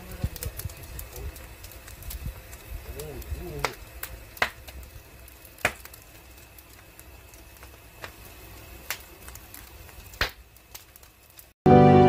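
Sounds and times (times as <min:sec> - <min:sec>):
wood fire crackling and popping: 0:00.0 - 0:11.6.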